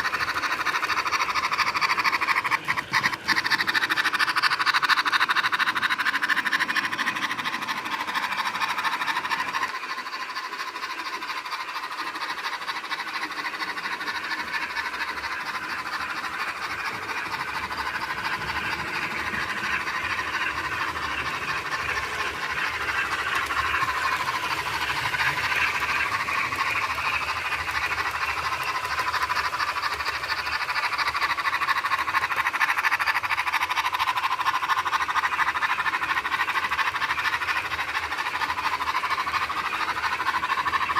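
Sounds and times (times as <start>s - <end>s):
model train wheels and motor: 0.0s - 40.9s
steam exhaust and hiss from speaker: 0.0s - 40.9s.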